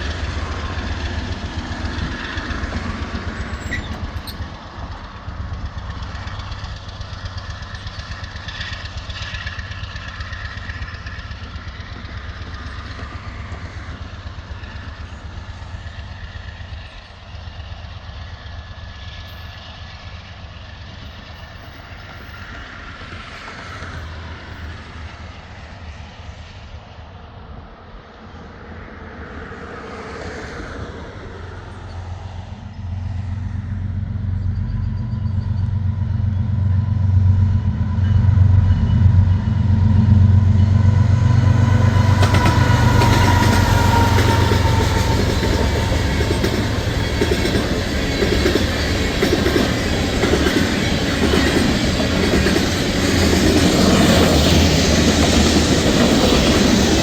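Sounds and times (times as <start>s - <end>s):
train rumbling by: 0.0s - 57.0s.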